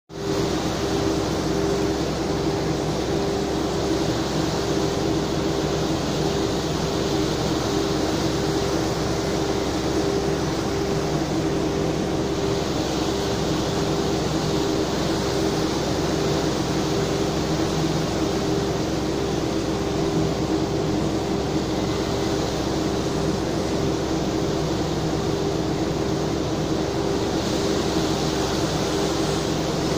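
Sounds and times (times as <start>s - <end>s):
rushing propeller wake: 0.1s - 29.9s
ship engines droning: 0.2s - 29.9s.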